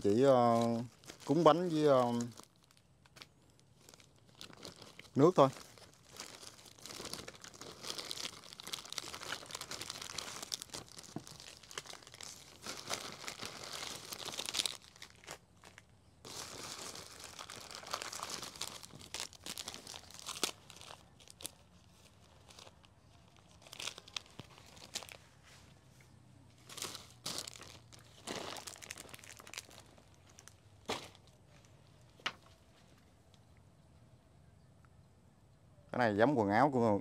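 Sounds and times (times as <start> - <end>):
plastic bag rustling: 0.0 - 25.8, 26.6 - 32.9.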